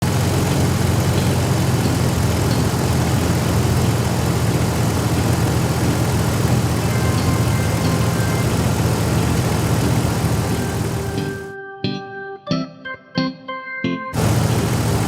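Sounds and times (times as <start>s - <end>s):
engine idling: 0.0s - 11.5s, 14.2s - 15.0s.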